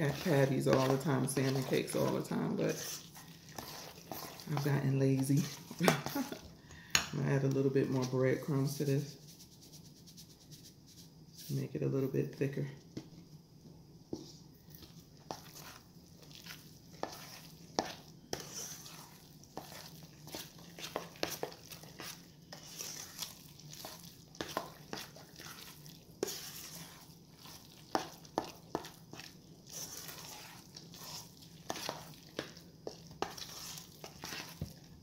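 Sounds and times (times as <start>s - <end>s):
spoon scraping thick mixture: 0.0s - 13.2s, 14.1s - 35.0s.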